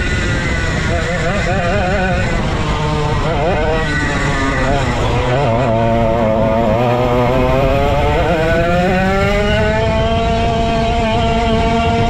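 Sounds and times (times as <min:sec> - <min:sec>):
go-kart engine revving: 0:00.0 - 0:12.0.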